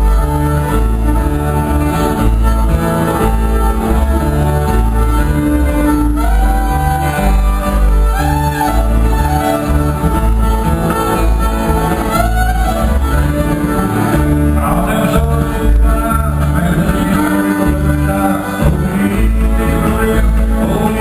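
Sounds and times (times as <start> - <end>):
fiddle sliding between notes: 0.0 - 21.0
guitar: 0.0 - 21.0
steady pulsing bass: 0.0 - 21.0.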